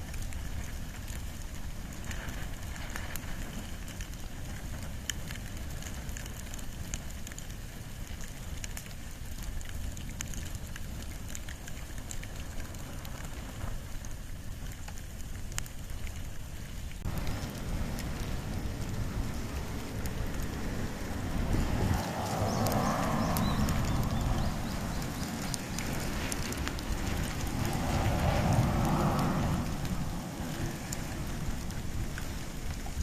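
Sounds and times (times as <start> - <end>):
bonfire flames rushing: 0.0 - 33.0
fire crackles and pops: 0.0 - 33.0.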